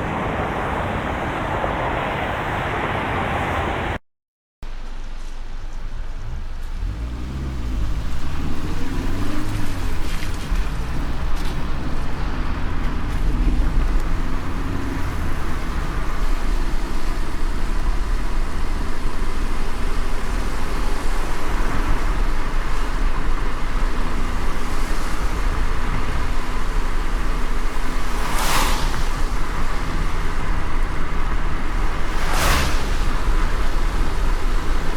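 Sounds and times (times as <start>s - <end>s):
moving car engine and road noise: 0.0s - 4.0s, 4.6s - 34.9s.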